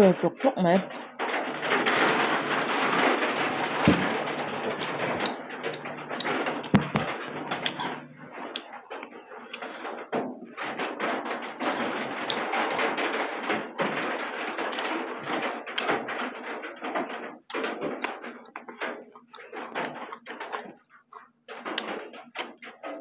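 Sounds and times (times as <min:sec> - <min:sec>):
people chewing and smacking lips: 0:01.2 - 0:23.0.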